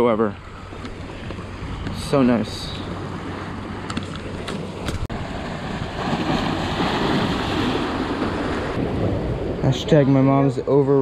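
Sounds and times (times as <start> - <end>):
ocean waves splashing against rocks: 0.6 - 10.3.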